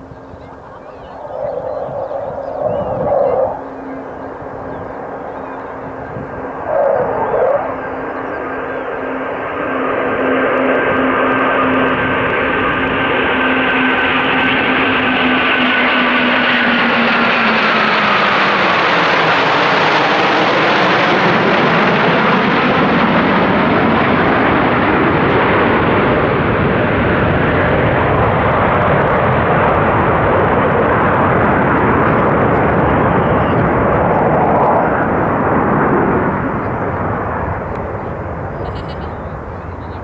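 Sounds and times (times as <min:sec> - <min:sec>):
jet fighters roaring overhead: 0:00.0 - 0:40.0.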